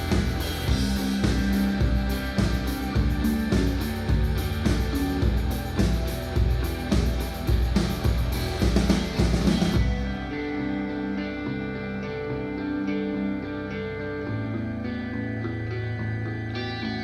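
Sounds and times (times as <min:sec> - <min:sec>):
held guitar chords: 0:00.0 - 0:17.0
rock music through speakers: 0:00.0 - 0:17.0.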